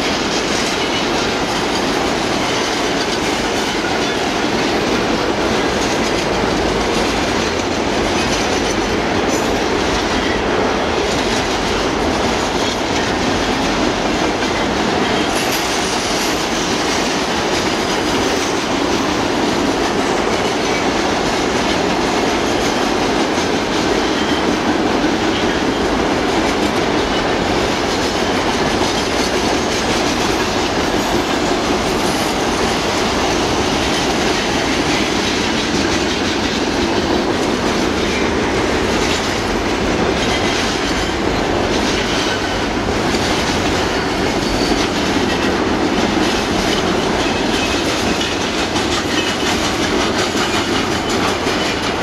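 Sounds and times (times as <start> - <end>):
train wheels rumbling on rails: 0.0 - 52.0
wheels clickety-clack: 0.0 - 52.0.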